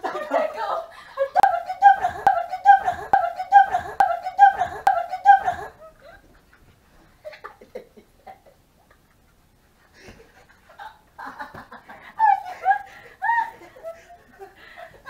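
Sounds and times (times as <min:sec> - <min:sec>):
stifled laughter: 0:00.0 - 0:15.0.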